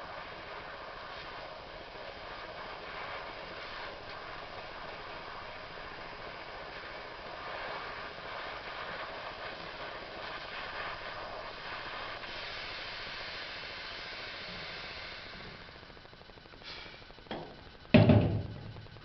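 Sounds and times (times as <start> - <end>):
torch flame hissing: 0.0 - 19.0.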